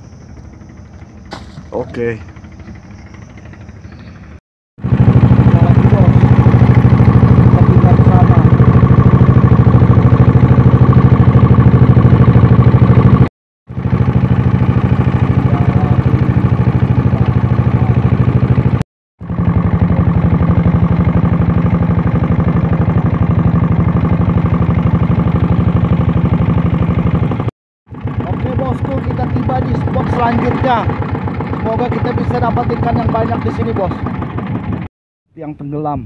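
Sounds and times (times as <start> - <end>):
boat engine running: 0.0 - 35.8.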